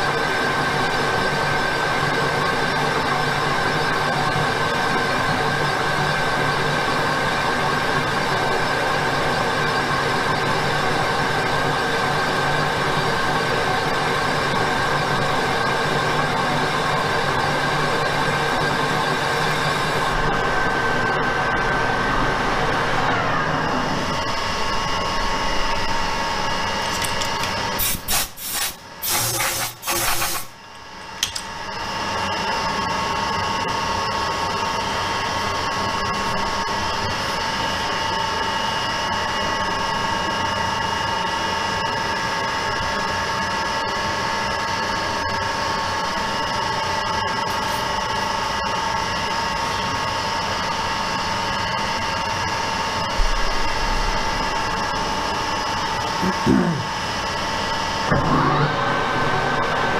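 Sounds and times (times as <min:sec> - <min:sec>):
loud uneven machine noises: 0:00.0 - 0:59.9
machine hum with high whine: 0:00.0 - 0:59.9.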